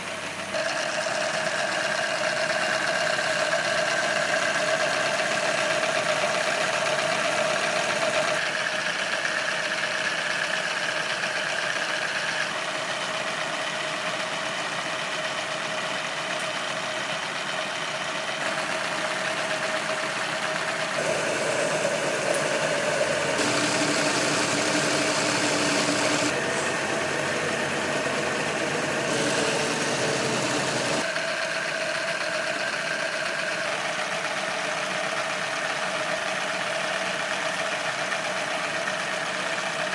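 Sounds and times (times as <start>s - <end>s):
model engines whirring: 0.0s - 39.9s.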